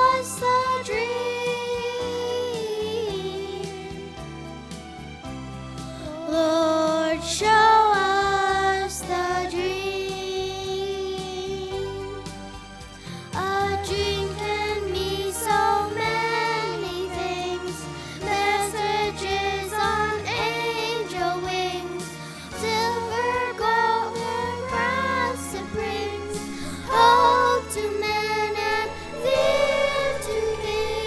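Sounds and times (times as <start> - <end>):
voices singing a melody: 0.0 - 4.2, 6.0 - 12.1, 13.4 - 31.0
instrumental accompaniment: 0.0 - 31.0.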